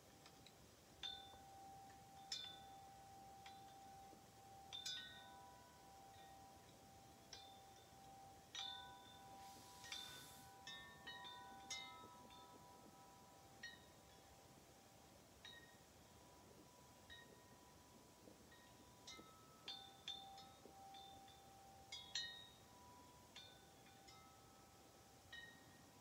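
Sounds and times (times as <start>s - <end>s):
metal wind chimes ringing: 0.0s - 26.0s.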